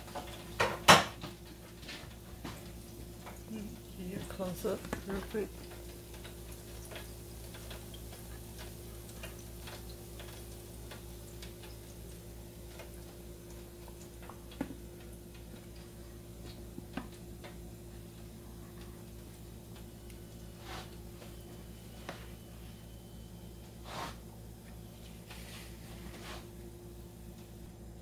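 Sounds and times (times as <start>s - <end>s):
steady low hum: 1.2s - 28.0s.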